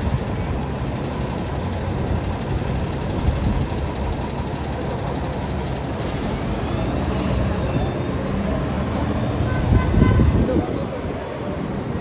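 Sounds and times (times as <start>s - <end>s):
dense traffic rumble: 0.0s - 12.0s.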